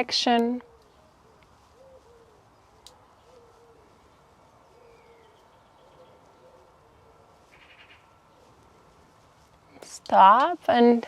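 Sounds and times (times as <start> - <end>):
faint low bird calls: 0.6 - 9.8.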